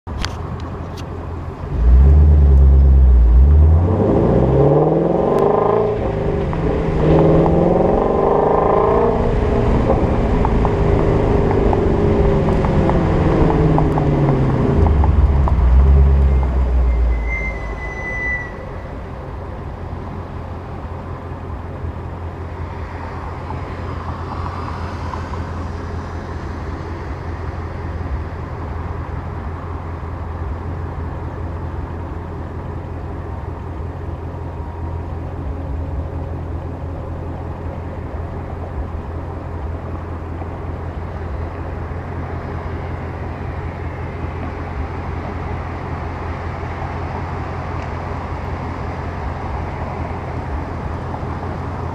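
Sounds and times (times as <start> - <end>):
car exhaust droning: 0.1 - 51.9.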